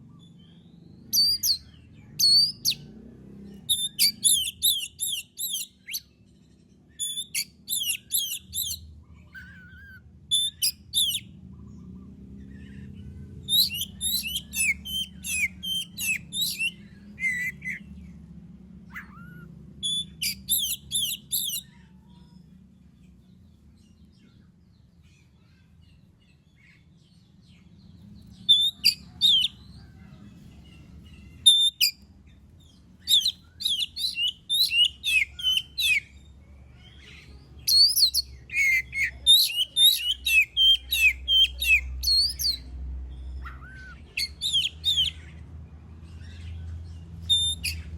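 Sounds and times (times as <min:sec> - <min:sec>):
magpie-robin singing: 0:00.1 - 0:47.9.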